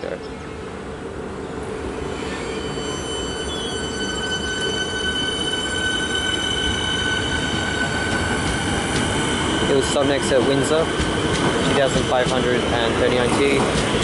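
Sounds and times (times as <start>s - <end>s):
train wheels rumbling: 1.0s - 14.0s.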